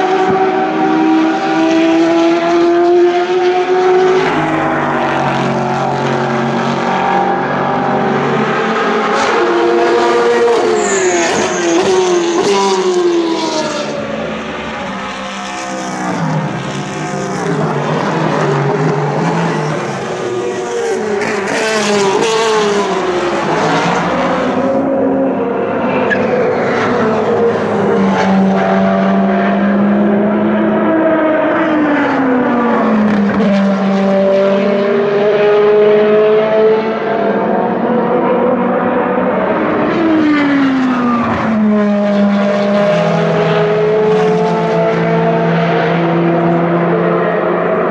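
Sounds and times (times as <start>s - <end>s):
race cars passing at speed: 0.0s - 47.9s.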